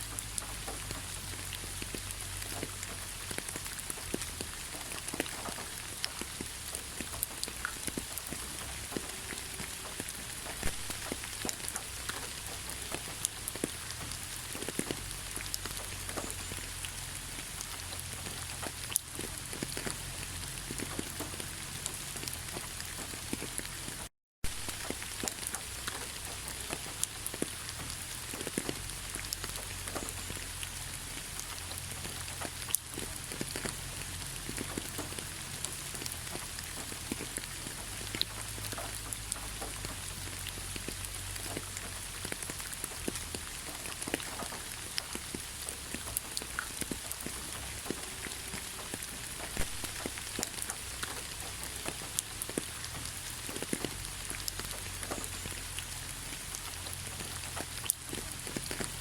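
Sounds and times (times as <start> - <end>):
heavy rain hissing: 0.0 - 59.0
raindrops hitting a surface: 0.0 - 59.0.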